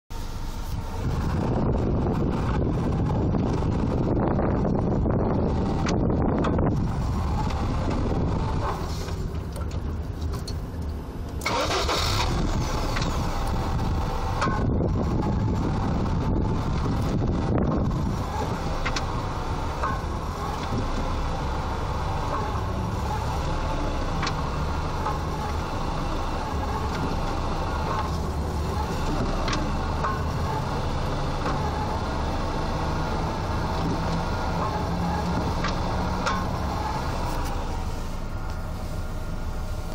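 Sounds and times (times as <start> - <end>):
car engine running with knock: 0.7 - 11.4, 12.8 - 38.8.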